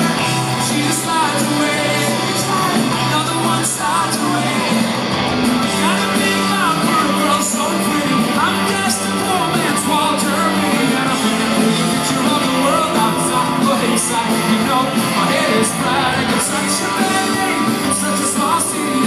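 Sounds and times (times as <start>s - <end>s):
person singing: 0.0s - 19.0s
rock band playing live: 0.0s - 19.0s.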